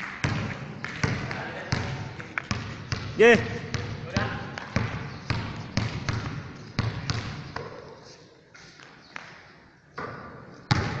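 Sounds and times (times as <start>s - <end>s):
basketball bouncing on court: 0.0s - 7.8s, 10.0s - 11.0s.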